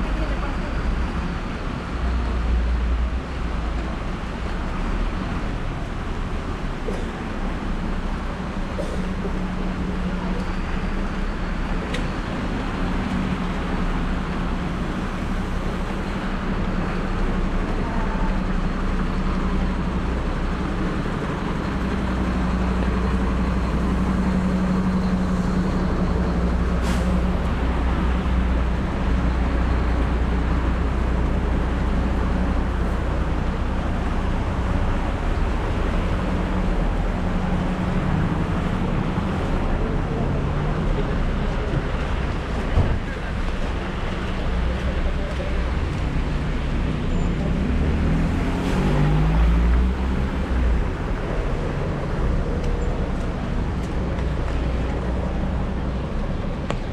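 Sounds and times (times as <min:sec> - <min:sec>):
vehicle engine humming: 0:03.1 - 0:56.9.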